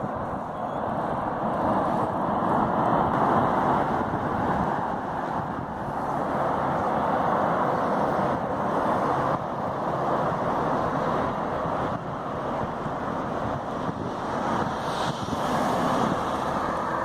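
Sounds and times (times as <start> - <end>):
distant freeway traffic hum: 0.0 - 17.0.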